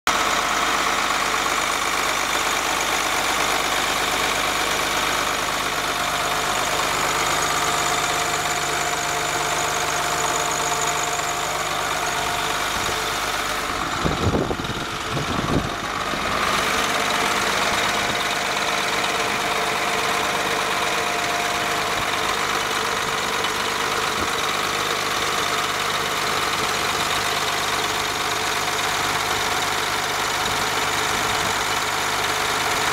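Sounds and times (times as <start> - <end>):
truck engine idling: 0.1 - 32.9.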